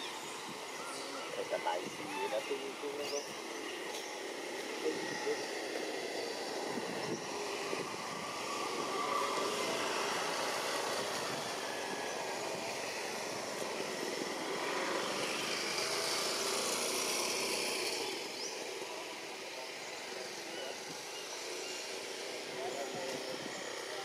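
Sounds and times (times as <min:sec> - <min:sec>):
distant traffic hum: 0:00.0 - 0:24.0.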